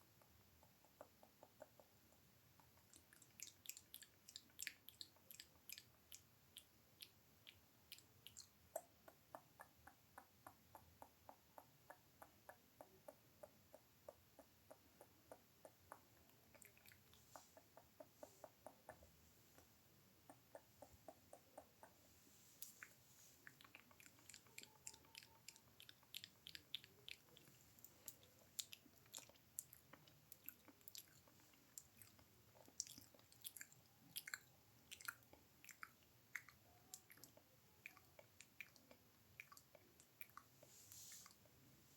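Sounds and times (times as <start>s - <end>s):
wet mouth clicks and smacks: 2.6s - 19.0s, 22.6s - 40.5s.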